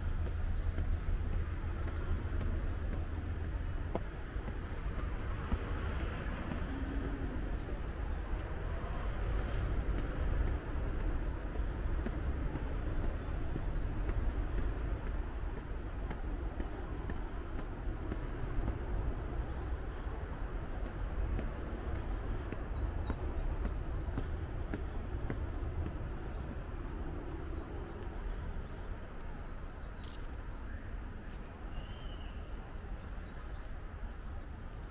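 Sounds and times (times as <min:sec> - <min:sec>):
low outdoor rumble: 0:00.0 - 0:34.9.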